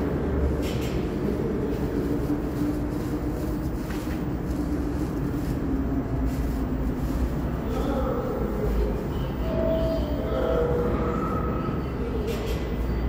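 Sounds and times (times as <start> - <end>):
subway train rumble and hum: 0.0 - 13.0.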